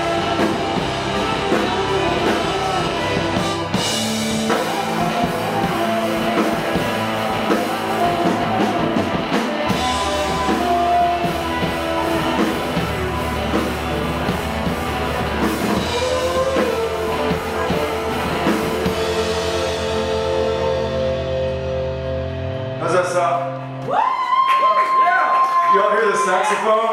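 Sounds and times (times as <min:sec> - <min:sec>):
saxophone: 0:00.0 - 0:22.8
electric keyboard: 0:00.0 - 0:23.8
bass guitar: 0:00.0 - 0:24.5
drums: 0:00.0 - 0:26.9.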